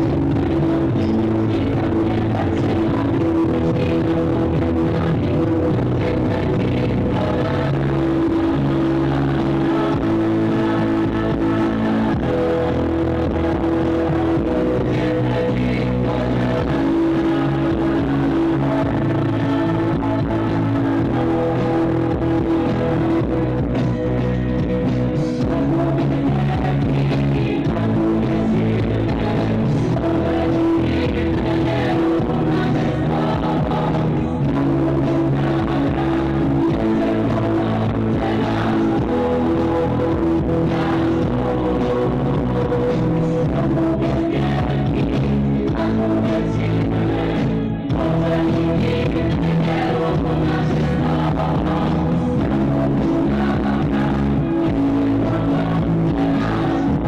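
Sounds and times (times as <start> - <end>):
band playing with guitar: 0.0 - 57.0.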